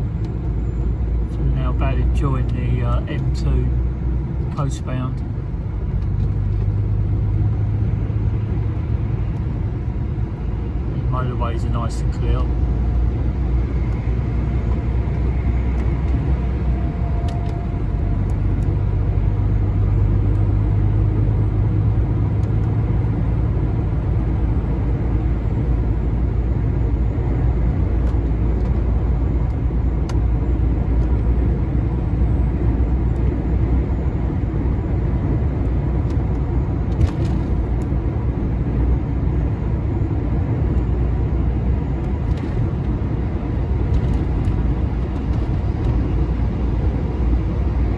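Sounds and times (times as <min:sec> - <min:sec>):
road rumble: 0:00.0 - 0:47.9
lorry engine drone: 0:05.1 - 0:47.9.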